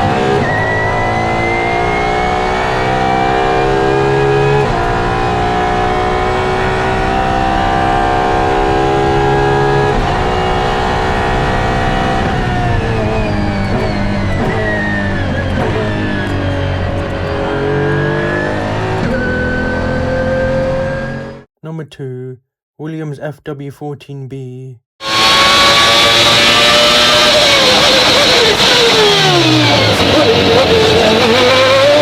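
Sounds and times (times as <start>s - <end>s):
car engine accelerating: 0.0s - 21.5s, 25.0s - 32.0s.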